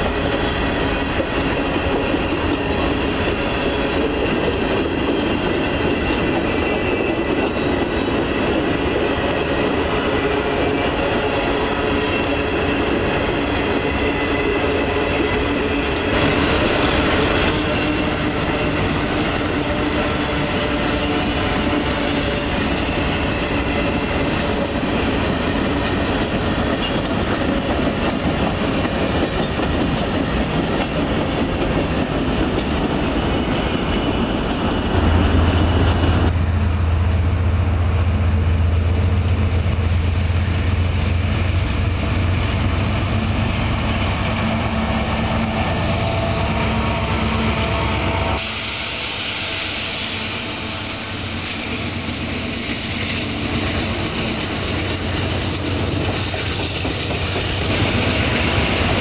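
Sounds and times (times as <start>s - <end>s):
train wheels clattering on rail: 0.0s - 36.4s, 39.2s - 59.0s
diesel locomotive rumble: 0.0s - 59.0s.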